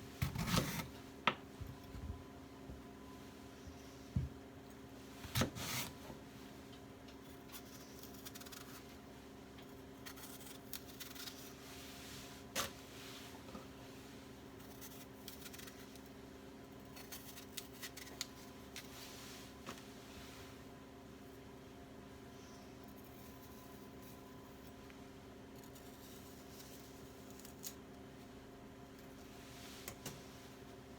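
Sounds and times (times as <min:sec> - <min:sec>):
low appliance hum: 0:00.0 - 0:30.9.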